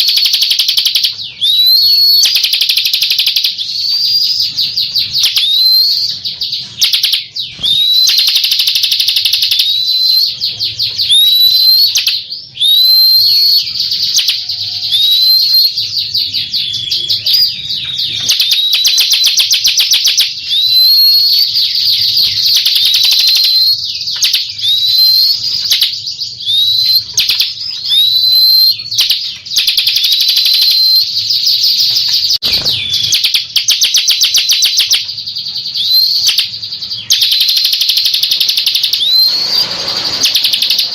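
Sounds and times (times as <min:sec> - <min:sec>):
bird trilling and whistling: 0:00.0 - 0:40.9.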